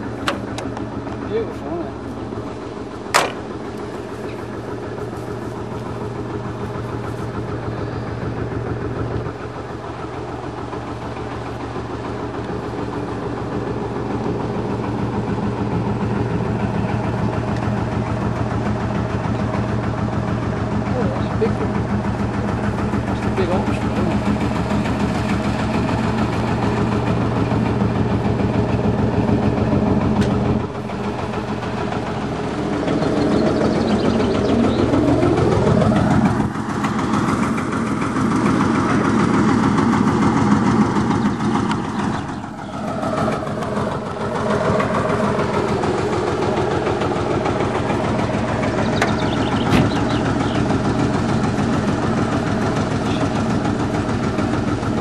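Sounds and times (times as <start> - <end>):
engine chugging: 0.0 - 55.0
second engine rising in pitch: 0.0 - 55.0.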